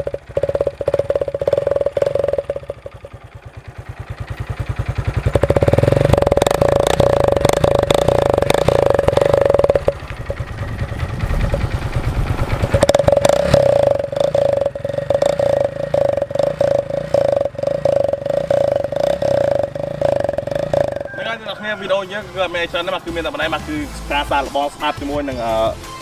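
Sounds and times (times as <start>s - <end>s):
motorcycle engine revving: 0.0s - 24.7s.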